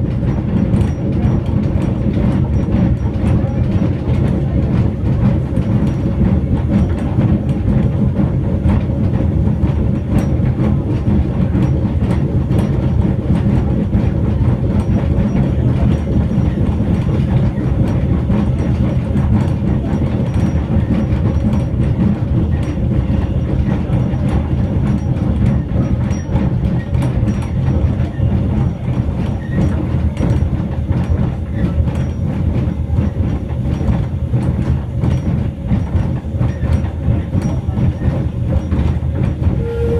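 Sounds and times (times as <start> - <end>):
train rumbling on track: 0.0 - 39.9
wheels clicking on rails: 0.0 - 39.9.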